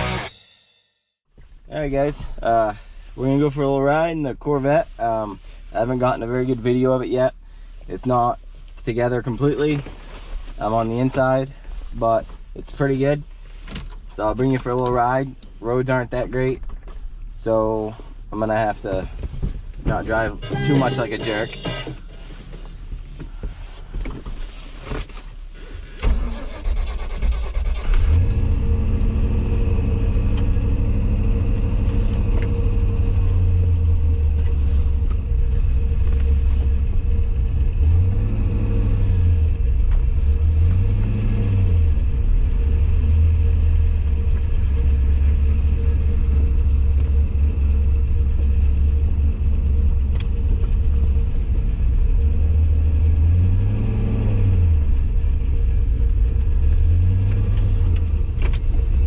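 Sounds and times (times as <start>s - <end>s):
car engine idling and revving: 0.0s - 0.3s, 1.4s - 59.0s.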